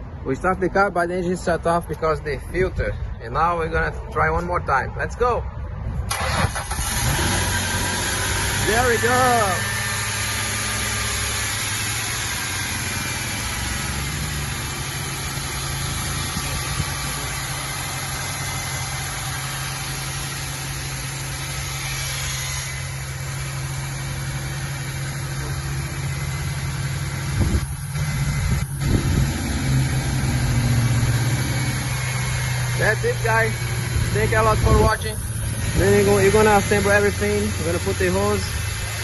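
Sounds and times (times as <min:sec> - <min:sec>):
car engine idling: 0:06.1 - 0:39.0.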